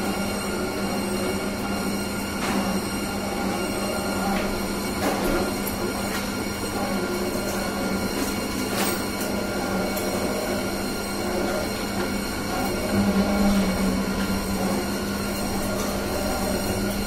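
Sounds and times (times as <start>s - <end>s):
machine motor hum: 0.0s - 17.0s.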